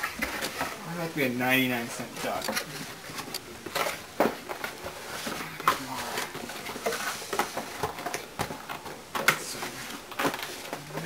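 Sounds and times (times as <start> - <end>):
cardboard being handled: 0.0 - 11.0
cardboard rustling: 0.0 - 11.0.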